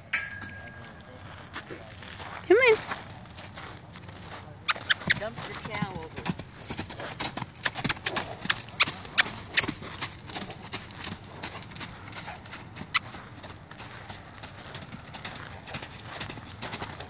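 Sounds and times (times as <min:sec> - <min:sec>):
horse hoofbeats on sand: 0:02.2 - 0:17.0.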